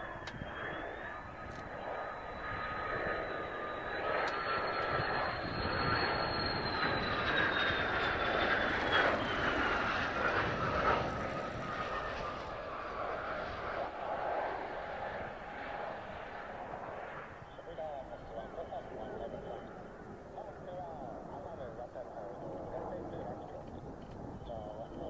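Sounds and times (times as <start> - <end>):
jet engine whine: 0.0 - 25.0
jet roar: 0.0 - 25.0.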